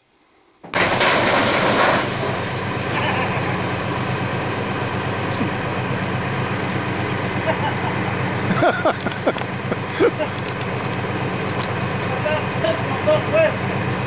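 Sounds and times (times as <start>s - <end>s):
tractor engine running: 0.7s - 14.0s.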